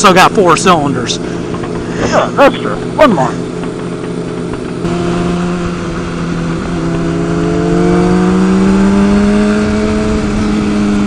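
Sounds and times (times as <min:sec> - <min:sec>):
motorcycle engine accelerating: 0:00.0 - 0:11.0
wind noise: 0:01.2 - 0:11.0.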